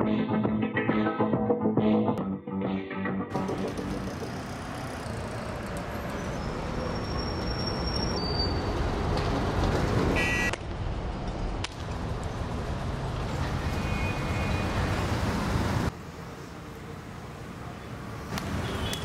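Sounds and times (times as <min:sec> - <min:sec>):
passing vehicles: 0:03.3 - 0:19.0.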